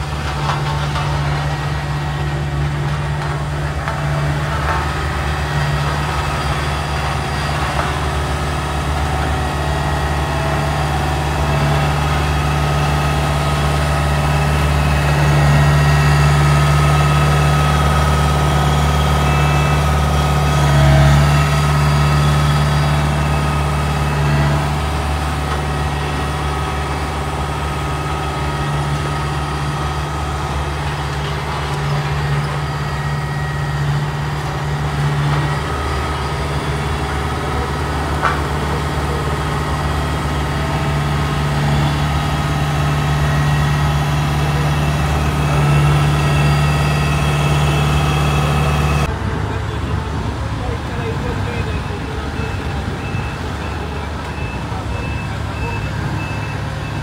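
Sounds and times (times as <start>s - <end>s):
asphalt roller diesel engine droning: 0.0s - 57.0s.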